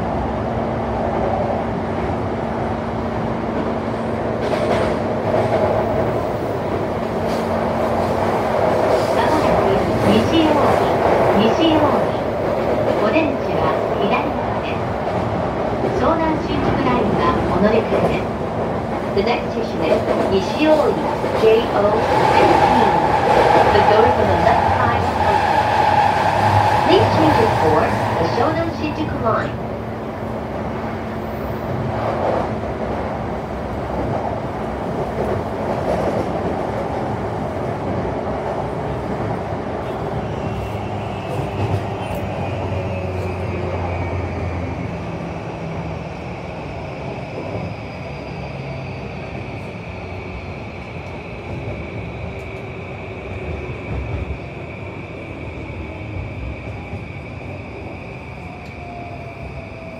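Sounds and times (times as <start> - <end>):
train wheels on rail rumble: 0.0 - 59.9.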